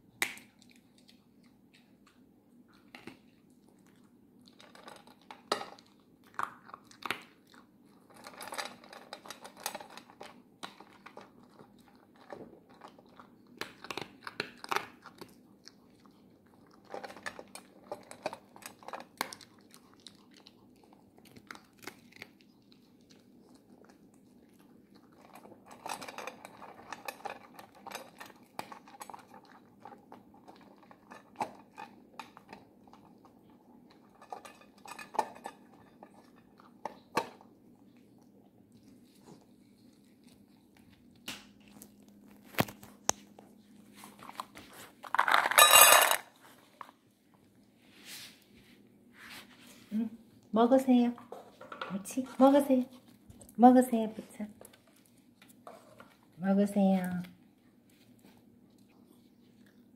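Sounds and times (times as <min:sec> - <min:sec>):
dog crunching dry kibble: 0:00.0 - 0:47.6, 0:50.4 - 0:59.9.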